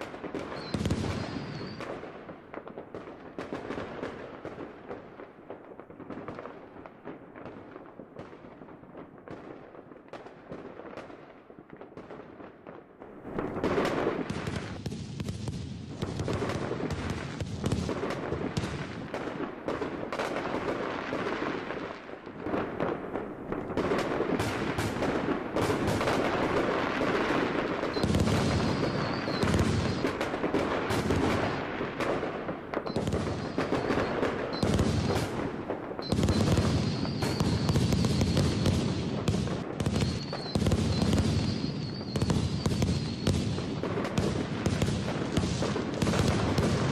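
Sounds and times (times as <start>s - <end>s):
deep fireworks booms: 0.0s - 46.9s
fireworks bangs and crackles: 0.0s - 46.9s.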